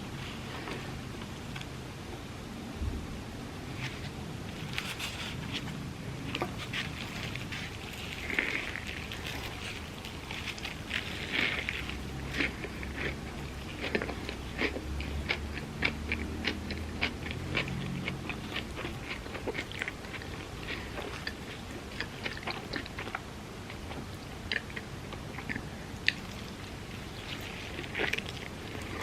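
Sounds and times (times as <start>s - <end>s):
person chewing crispy food: 3.8s - 29.0s.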